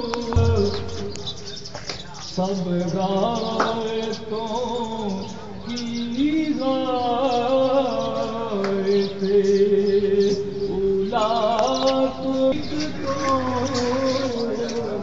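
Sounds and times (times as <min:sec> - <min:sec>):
man singing slow recitation: 0:00.0 - 0:15.0.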